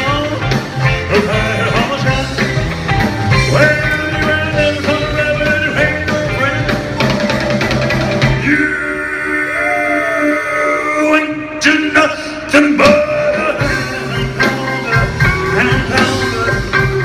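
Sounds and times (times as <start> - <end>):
rock band playing loud: 0.0 - 17.0.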